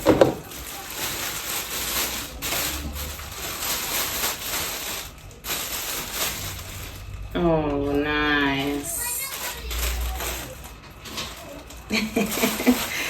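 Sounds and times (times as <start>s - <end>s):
packaging rustling and clicking: 0.0s - 7.3s, 8.8s - 13.0s.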